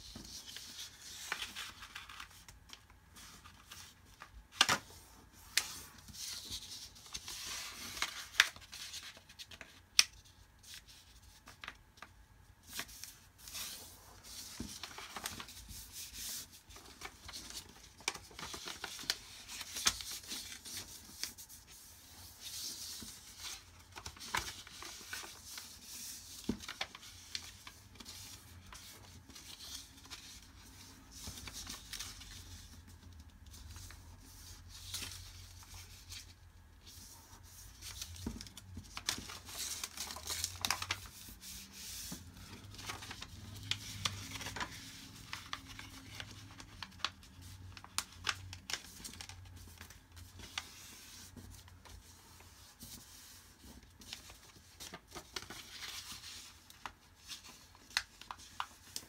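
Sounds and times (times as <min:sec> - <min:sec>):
paper rustling while folded: 0:00.0 - 0:59.0.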